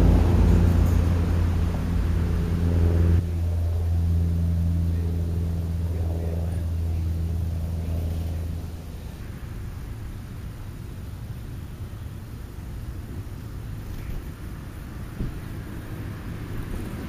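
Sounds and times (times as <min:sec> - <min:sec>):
motor droning hum: 0:00.0 - 0:17.0.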